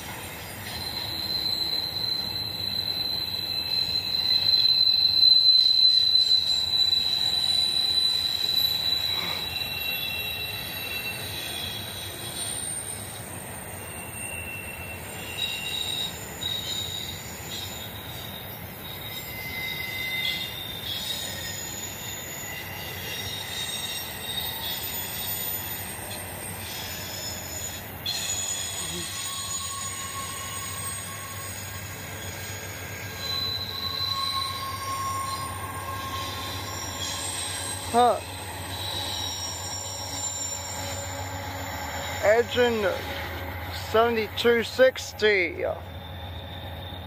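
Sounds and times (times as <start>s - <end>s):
high wheel squeals: 0.0s - 47.0s
steel wheels rumbling on rail: 0.0s - 47.0s.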